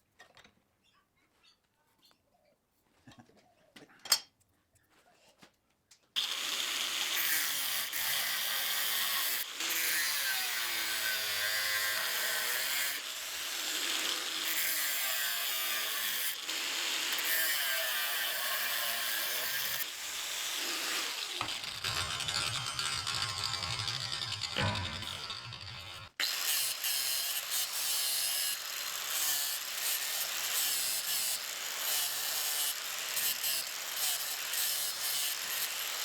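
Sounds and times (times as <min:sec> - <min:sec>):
angle grinder grinding steel: 0:06.2 - 0:36.0.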